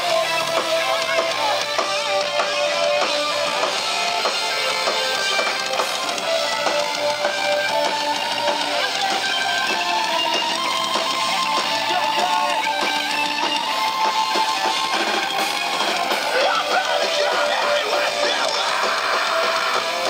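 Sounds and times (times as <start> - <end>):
electric guitars ringing notes: 0.0 - 20.0
heavy rock band playing live: 0.0 - 20.0.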